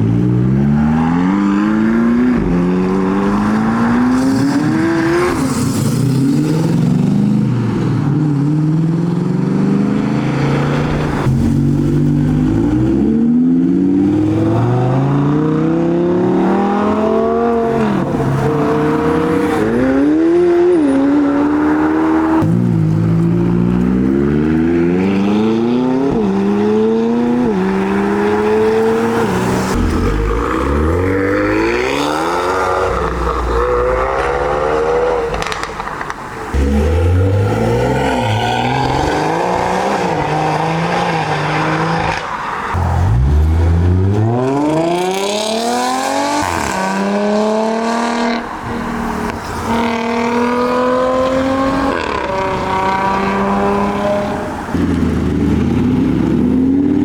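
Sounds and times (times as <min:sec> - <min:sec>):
car engines accelerating hard: 0:00.0 - 0:57.0.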